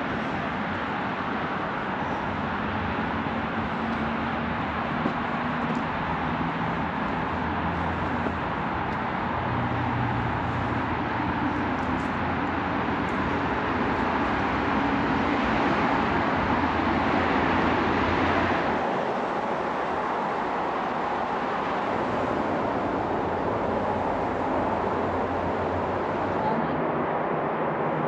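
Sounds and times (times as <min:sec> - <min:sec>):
road traffic noise: 0:00.0 - 0:28.0
vehicle passing rumble: 0:00.0 - 0:28.0.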